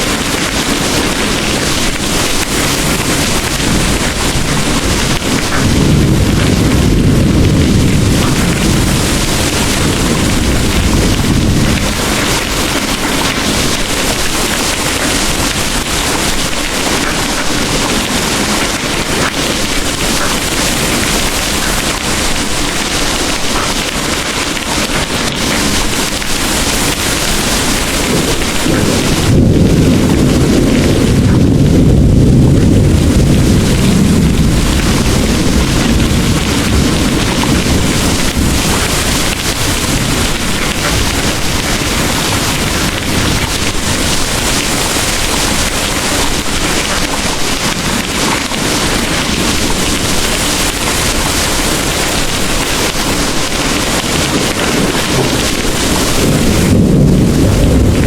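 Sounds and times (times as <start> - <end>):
distant thunder rolling: 0.0 - 58.0
heavy rain pouring: 0.0 - 58.0.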